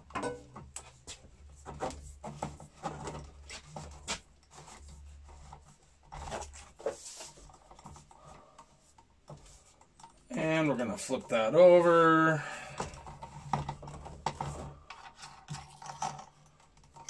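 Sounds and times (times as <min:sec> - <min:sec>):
hands rubbing and scraping conduit: 0:00.7 - 0:17.0.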